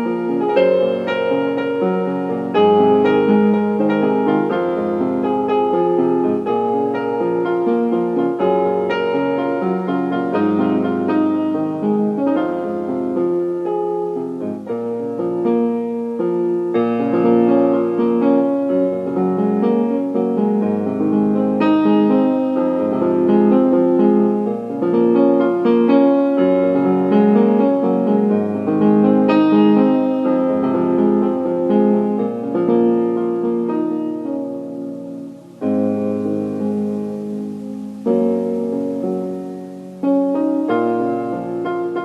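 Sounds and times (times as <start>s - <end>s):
slow piano music: 0.0s - 42.0s.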